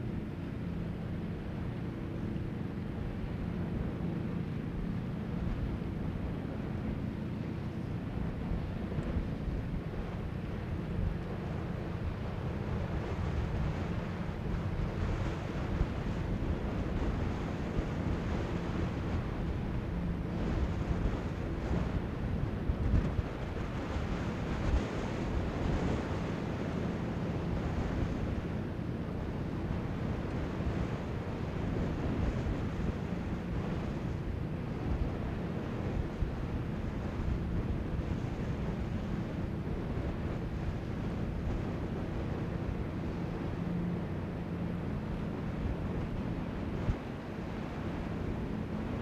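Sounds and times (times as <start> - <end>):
faint ferry engine drone: 0.0 - 49.0
wind buffeting microphone: 0.0 - 49.0.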